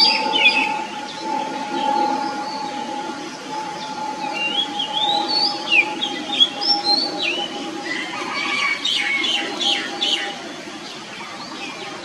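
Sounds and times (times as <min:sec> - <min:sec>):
bird singing whistled notes: 0:00.0 - 0:10.4.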